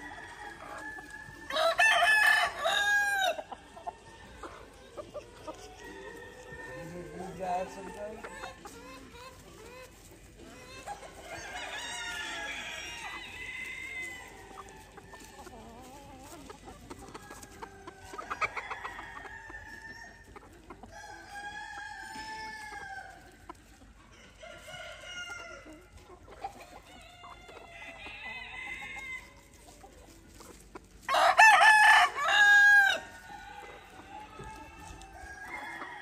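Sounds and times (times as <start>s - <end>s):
roosters crowing: 0.0s - 3.6s, 5.4s - 9.1s, 10.4s - 16.4s, 17.0s - 23.3s, 24.1s - 25.9s, 26.8s - 29.5s, 31.1s - 36.0s
chickens clucking: 0.0s - 36.0s.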